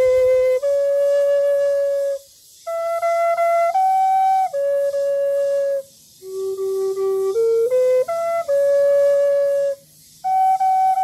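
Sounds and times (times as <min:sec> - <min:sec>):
bamboo flute playing slowly: 0:00.0 - 0:11.0.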